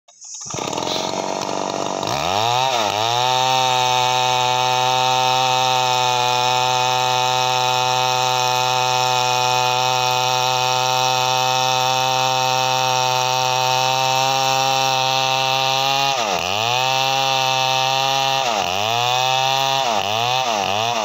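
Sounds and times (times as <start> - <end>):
chainsaw cutting wood: 0.1 - 21.0.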